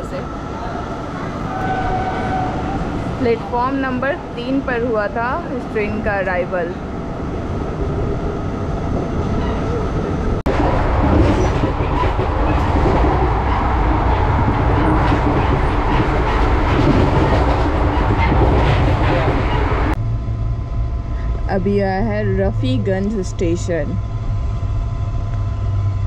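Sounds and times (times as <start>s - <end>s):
quieter train rolling sound: 0.0s - 26.0s
train wheel-on-rail rush: 0.0s - 26.0s.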